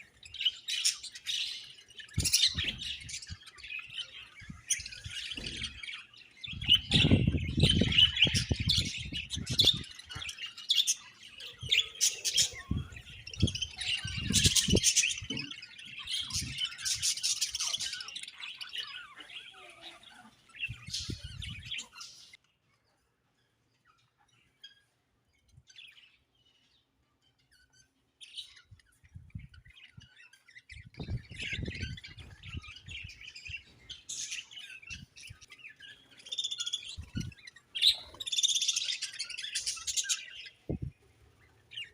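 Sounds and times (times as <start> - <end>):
budgerigars chirping: 0.0 - 22.4, 29.5 - 40.8.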